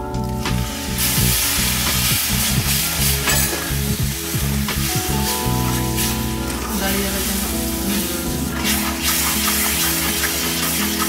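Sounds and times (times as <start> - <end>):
milk sizzling in hot pan: 0.2 - 11.0.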